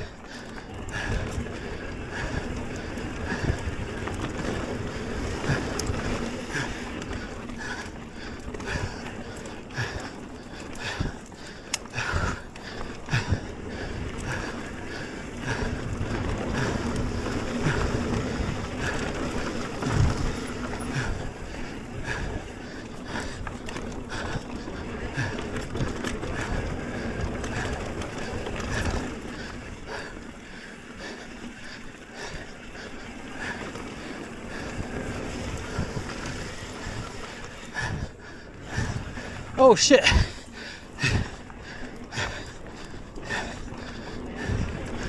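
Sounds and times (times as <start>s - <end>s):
bike rattling over bumps: 0.0s - 45.0s
bike tyres on dirt and rock: 0.0s - 45.0s.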